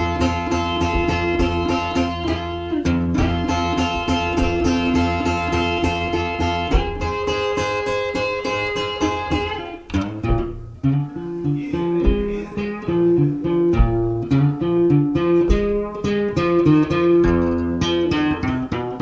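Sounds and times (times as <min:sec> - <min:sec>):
blues guitar: 0:00.0 - 0:19.0.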